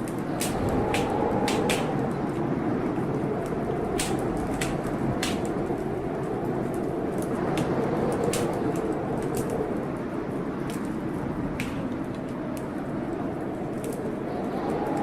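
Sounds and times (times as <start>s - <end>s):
blizzard wind blowing: 0.0s - 15.0s
wood fire crackling: 0.0s - 15.0s.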